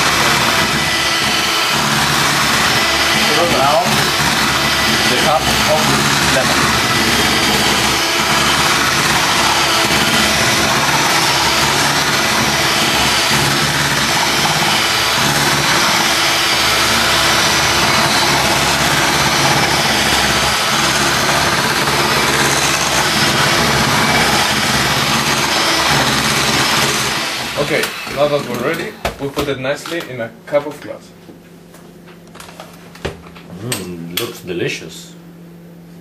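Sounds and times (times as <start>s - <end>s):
electric hand mixer whipping: 0.0s - 29.5s.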